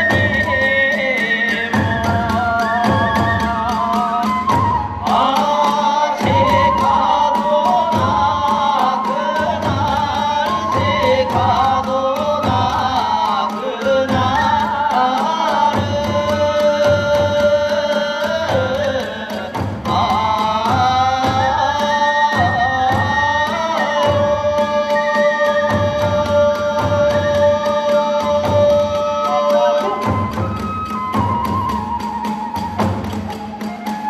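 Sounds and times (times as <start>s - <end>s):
drums beating fast rhythm: 0.0s - 34.0s.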